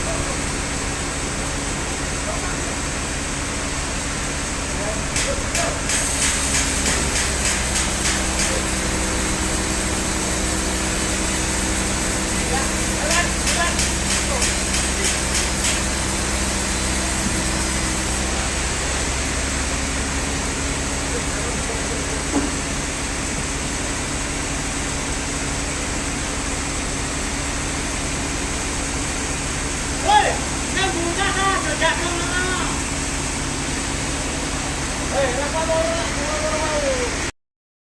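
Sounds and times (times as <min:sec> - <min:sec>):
sawmill machinery hum: 0:00.0 - 0:37.3.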